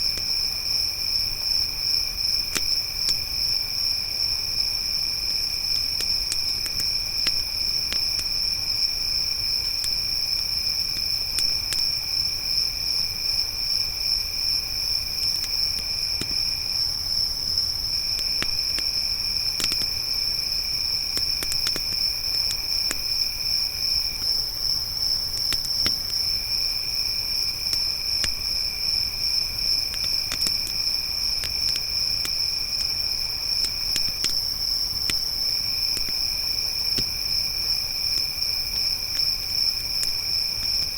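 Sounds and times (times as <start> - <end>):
crickets trilling: 0.0 - 40.9
campfire crackling: 5.2 - 12.7, 13.4 - 40.9.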